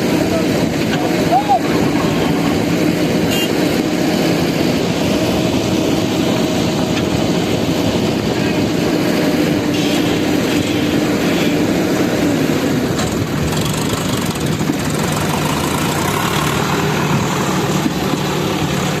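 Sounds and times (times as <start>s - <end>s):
vehicle engine running steadily: 0.0s - 19.0s.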